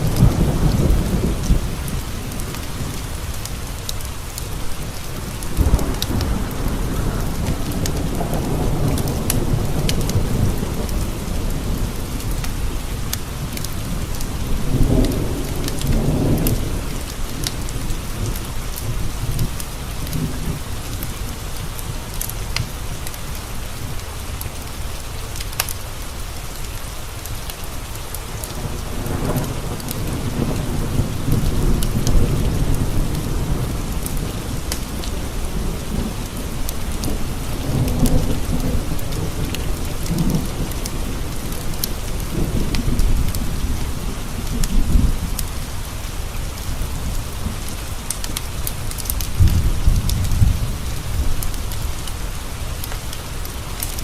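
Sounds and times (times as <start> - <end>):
low rolling thunder: 0.0 - 22.7, 28.4 - 54.0
rain pattering on window glass: 0.0 - 54.0.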